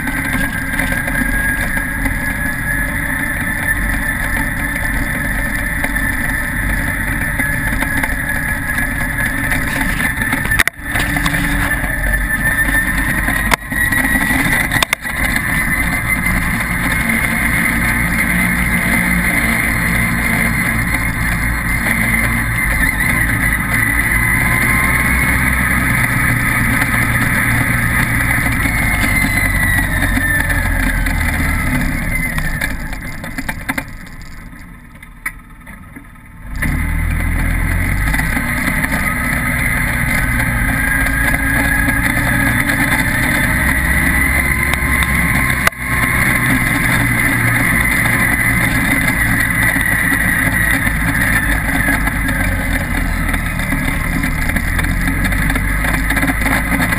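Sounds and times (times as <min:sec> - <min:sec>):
utility vehicle engine whine: 0:00.0 - 0:56.9.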